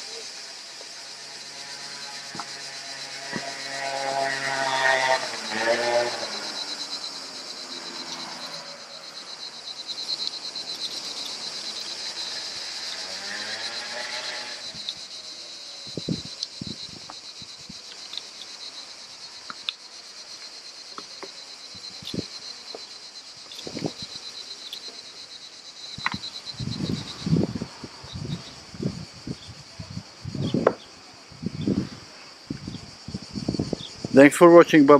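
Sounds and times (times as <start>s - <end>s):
cicadas droning: 0.0s - 34.9s.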